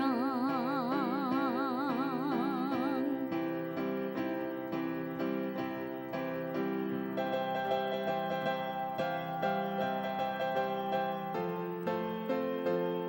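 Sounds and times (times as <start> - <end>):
electronic keyboard piano chords: 0.0 - 13.0.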